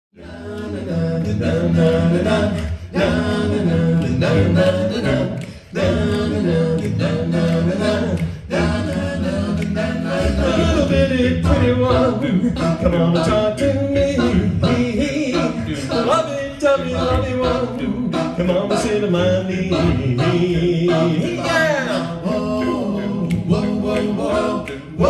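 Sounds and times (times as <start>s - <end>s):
male a cappella group singing: 0.1s - 25.0s.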